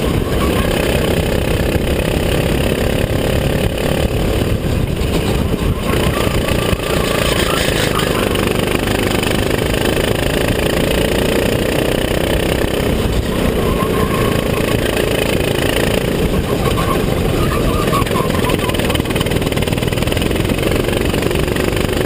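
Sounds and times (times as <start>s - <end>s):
kart engine running hard: 0.0s - 22.0s
rushing wind noise: 0.0s - 22.0s.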